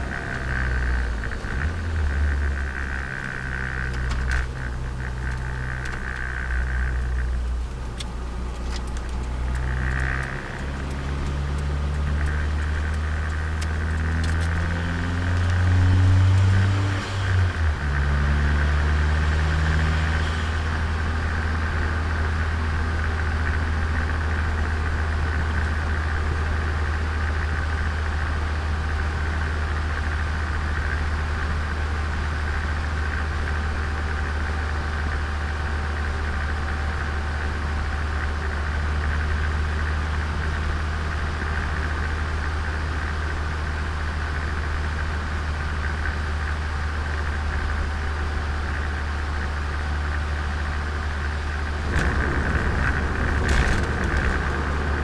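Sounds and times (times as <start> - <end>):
turbocharged car engine accelerating: 0.0 - 55.0.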